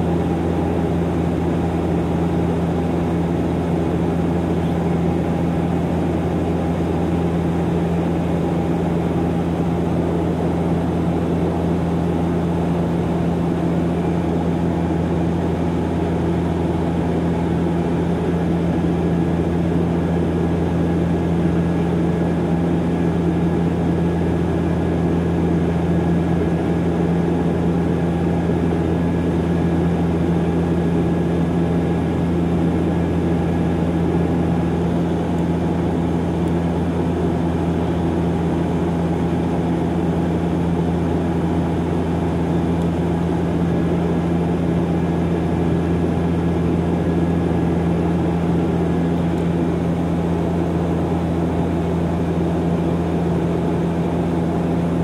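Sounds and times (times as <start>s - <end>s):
turboprop engine hum: 0.0s - 55.0s.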